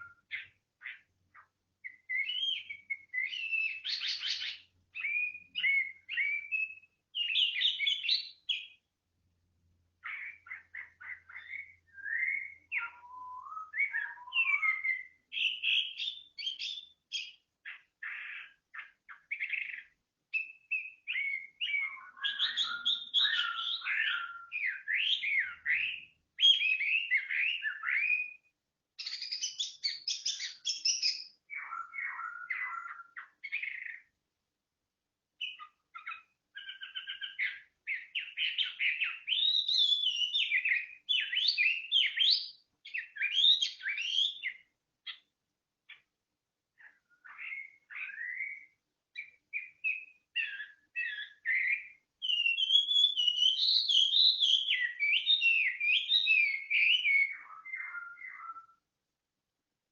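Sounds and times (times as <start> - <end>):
songbird singing: 0.0 - 34.4, 35.3 - 59.1.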